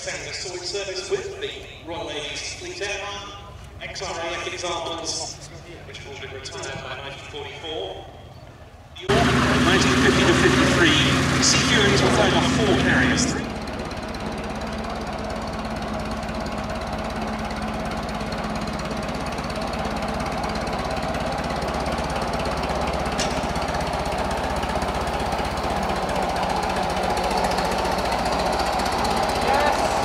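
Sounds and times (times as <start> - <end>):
aircraft radial engine in flight: 2.1 - 30.0.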